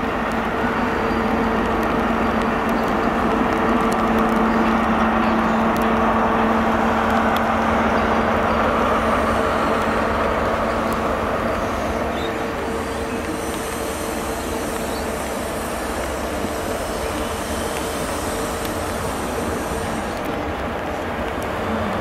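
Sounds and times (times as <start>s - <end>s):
diesel train engine droning: 0.0s - 22.0s.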